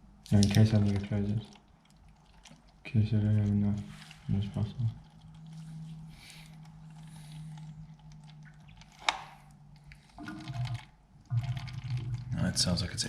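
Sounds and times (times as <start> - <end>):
coolant trickling into container: 0.0 - 13.0
steady low hum: 0.0 - 13.0.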